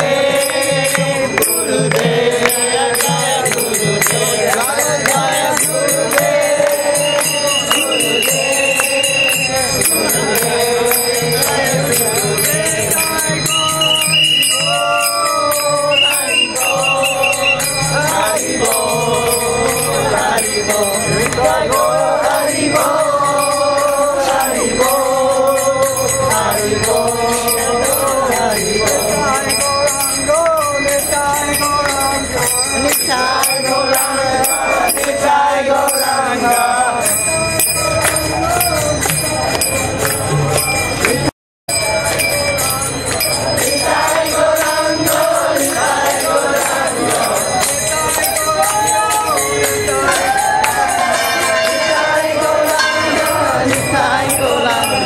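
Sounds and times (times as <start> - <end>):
group chanting call and response: 0.0 - 55.0
hand cymbals clashing: 0.3 - 35.1, 35.9 - 55.0.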